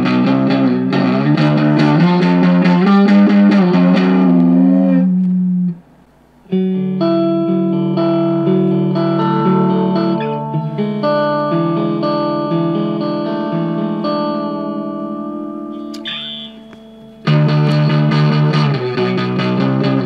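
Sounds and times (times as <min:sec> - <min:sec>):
fuzz electric guitar chords: 0:00.0 - 0:20.0.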